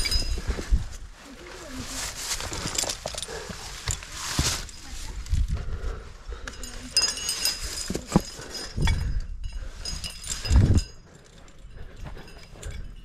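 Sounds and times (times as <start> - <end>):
metal climbing gear clinking: 0.0 - 5.6, 6.2 - 13.0.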